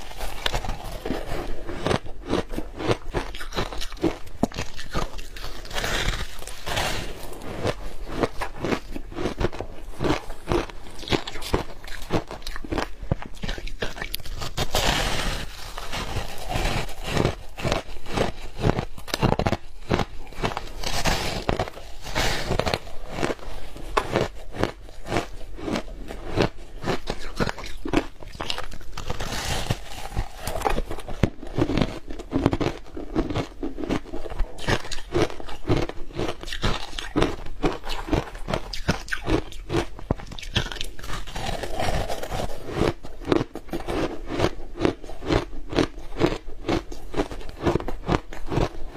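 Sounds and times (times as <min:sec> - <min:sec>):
crunching and chewing ice: 0:00.0 - 0:48.9.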